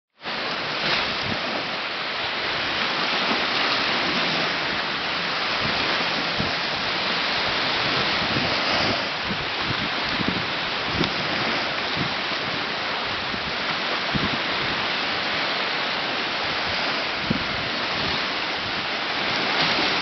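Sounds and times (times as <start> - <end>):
small waves breaking on beach: 0.2 - 20.0.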